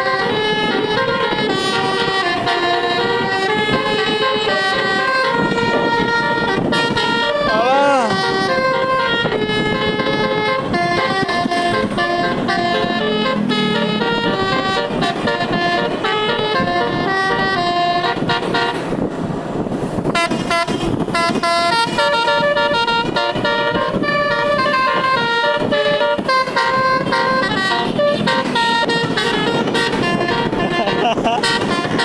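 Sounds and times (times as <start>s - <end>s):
multi-tone bus horn melody: 0.0s - 32.0s.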